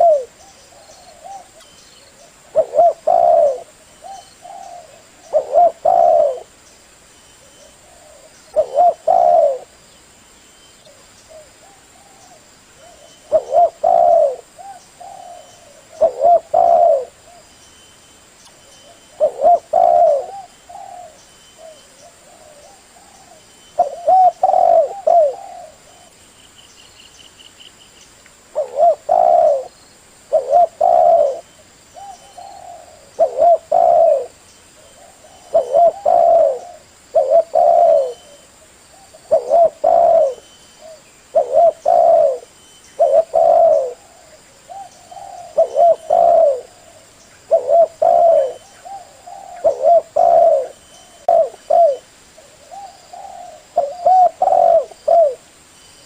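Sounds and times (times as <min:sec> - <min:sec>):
dove cooing: 0:00.0 - 0:06.6, 0:07.4 - 0:09.8, 0:10.8 - 0:17.5, 0:18.8 - 0:26.2, 0:28.5 - 0:55.4.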